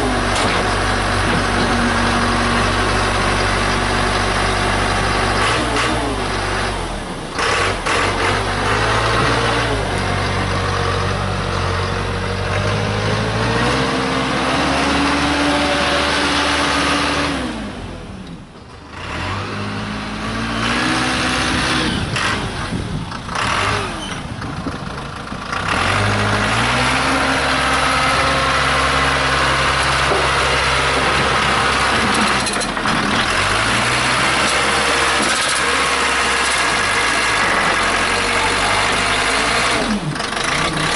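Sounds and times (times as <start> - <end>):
backhoe engine revving: 0.0 - 40.9.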